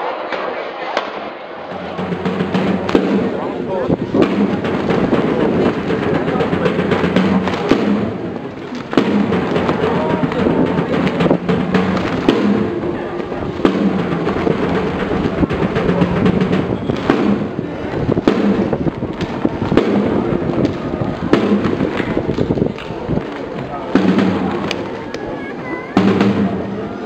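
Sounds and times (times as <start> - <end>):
sharp drum strokes: 1.7 - 22.4, 23.9 - 24.8, 25.9 - 27.0
band holding low notes: 1.7 - 25.4.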